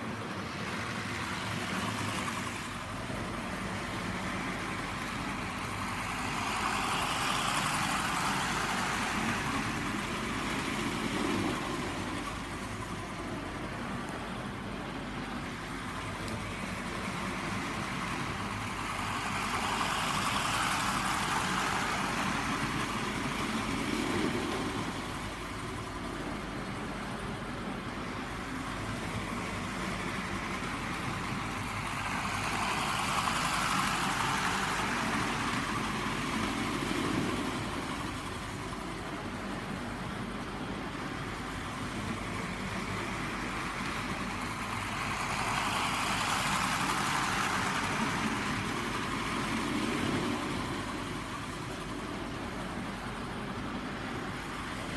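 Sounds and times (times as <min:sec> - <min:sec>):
model train running on track: 0:00.0 - 0:54.9.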